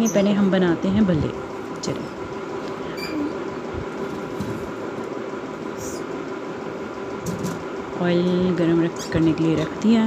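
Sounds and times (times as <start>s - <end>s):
kitchen background hum: 0.0s - 10.0s.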